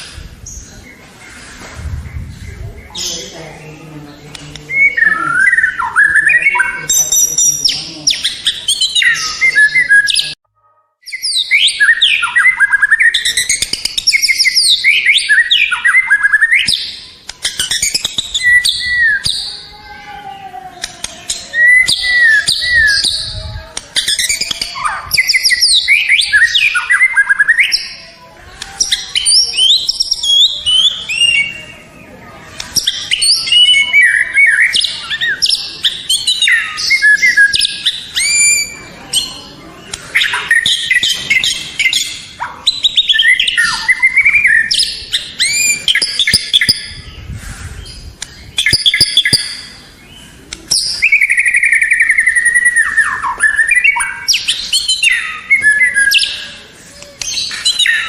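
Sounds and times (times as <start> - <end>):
bird singing whistles and chatter: 0.0 - 10.4, 11.0 - 58.0.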